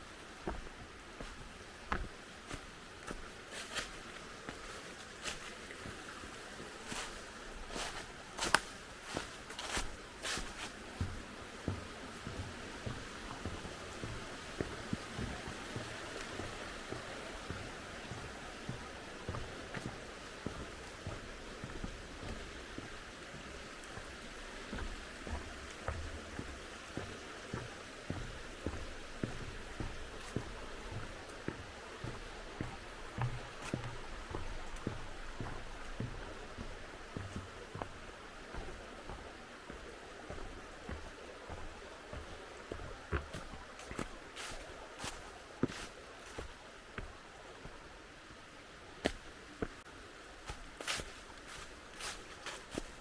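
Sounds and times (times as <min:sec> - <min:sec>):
crunching footsteps: 0:00.0 - 0:06.1, 0:06.8 - 0:47.8, 0:49.0 - 0:53.0
faint steady hiss: 0:00.0 - 0:53.0
mountain stream rushing: 0:00.0 - 0:53.0.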